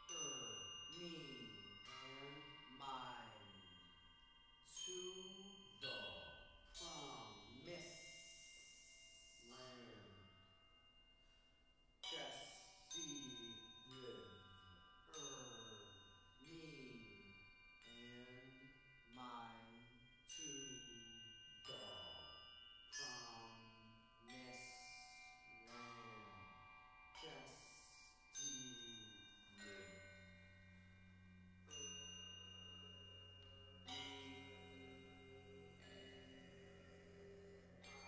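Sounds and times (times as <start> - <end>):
metal mallet instruments ringing: 0.0 - 11.0, 12.0 - 38.0.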